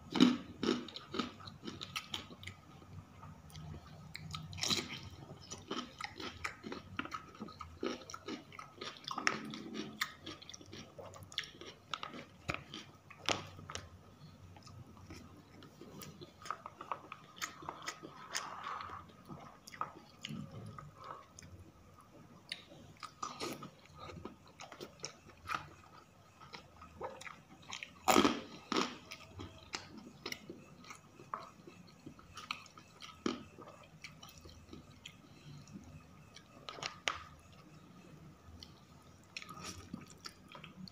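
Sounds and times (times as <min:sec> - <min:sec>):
person chewing food: 0:00.0 - 0:37.8, 0:38.6 - 0:40.9
food crunching: 0:00.1 - 0:21.6, 0:22.4 - 0:37.8.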